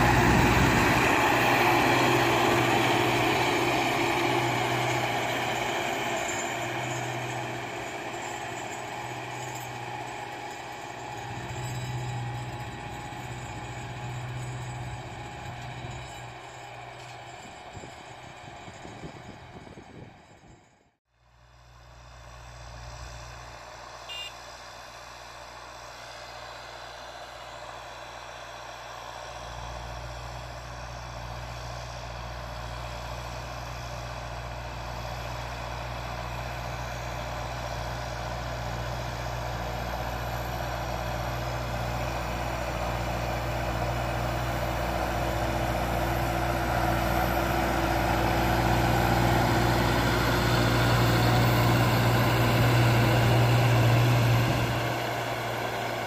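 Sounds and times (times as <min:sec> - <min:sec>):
tractor engine running: 0:00.0 - 0:20.8, 0:21.5 - 0:56.0.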